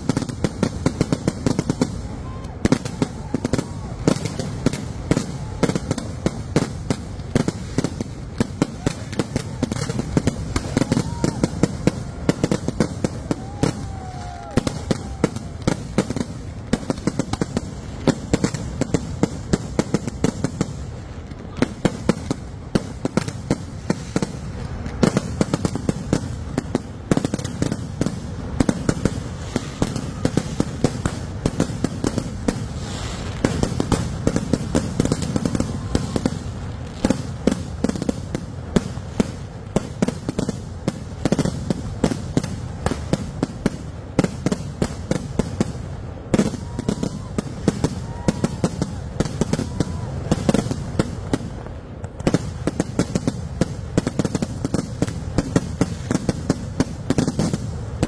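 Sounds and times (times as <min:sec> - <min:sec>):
firework whistle: 0:00.0 - 0:40.5, 0:41.2 - 0:51.6
fireworks bangs and crackling: 0:00.0 - 0:58.0.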